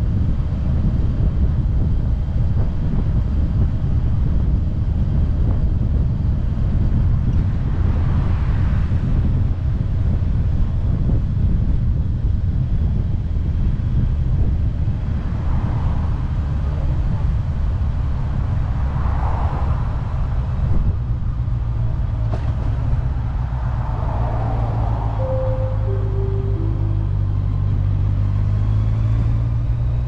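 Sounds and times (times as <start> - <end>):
wind noise on microphone: 0.0 - 25.4.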